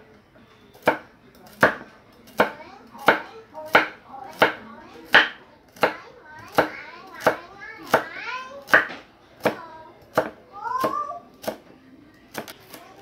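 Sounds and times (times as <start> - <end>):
cleaver chopping on a board: 0.8 - 11.6.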